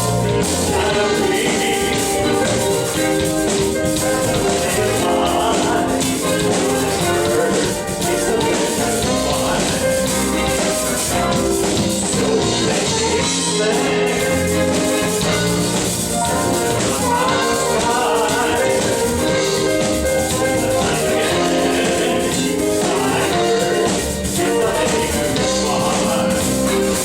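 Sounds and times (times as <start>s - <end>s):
drum kit beat: 0.0s - 27.0s
smooth jazz band playing: 0.0s - 27.0s.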